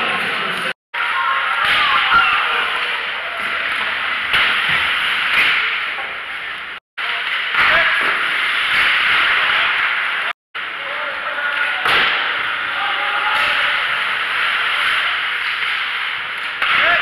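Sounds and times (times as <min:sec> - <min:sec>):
hockey sticks and puck clacking: 0:00.0 - 0:10.3, 0:11.2 - 0:17.0.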